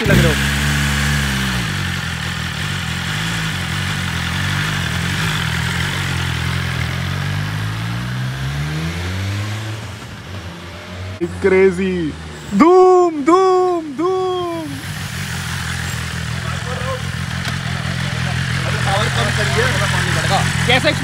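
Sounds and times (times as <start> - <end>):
motorcycle engine accelerating: 0.0 - 12.2, 13.5 - 21.0.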